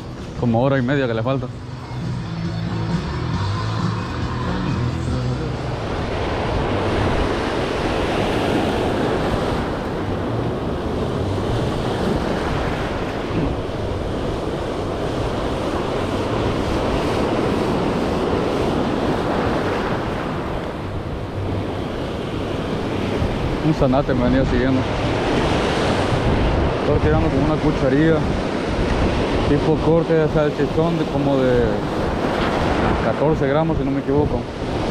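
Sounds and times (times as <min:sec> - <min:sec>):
ocean surf breaking on rocks: 0:03.9 - 0:34.9
wind buffeting microphone: 0:05.6 - 0:34.9.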